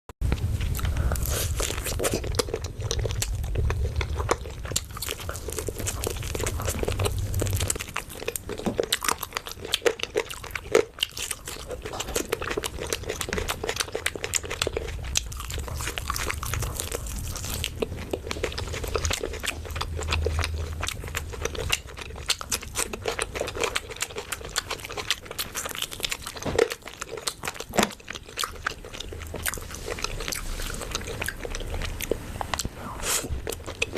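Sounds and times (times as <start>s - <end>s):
person chewing crunchy food: 0.2s - 33.9s.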